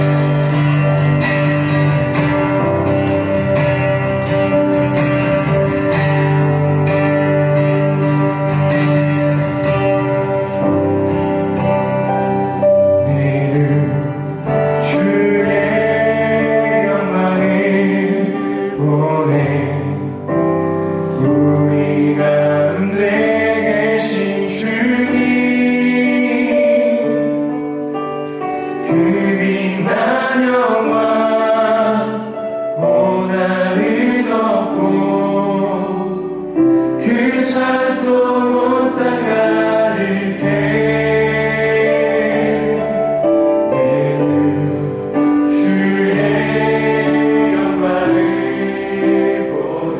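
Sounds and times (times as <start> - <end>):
keyboard and band accompaniment: 0.0 - 49.9
vocalists singing together: 8.0 - 49.9.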